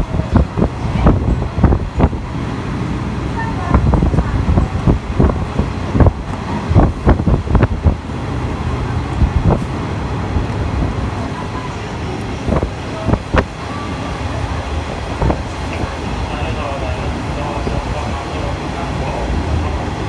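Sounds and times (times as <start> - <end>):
train rumbling: 0.0 - 20.0
wind noise: 0.0 - 20.0.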